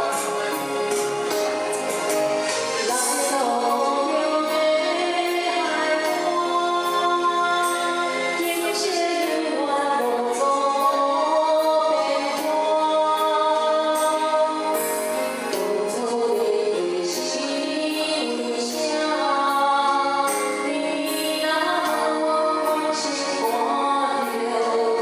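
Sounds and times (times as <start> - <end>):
karaoke backing track with beat: 0.0 - 25.0
woman singing into microphone: 0.0 - 25.0.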